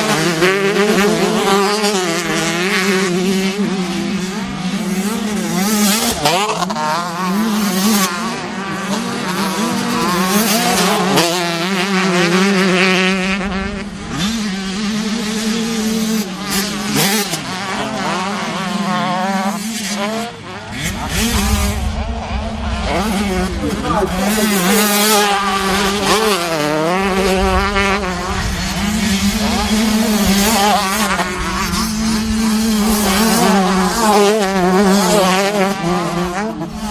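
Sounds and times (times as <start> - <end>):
motorcycle engines revving: 0.0 - 36.9.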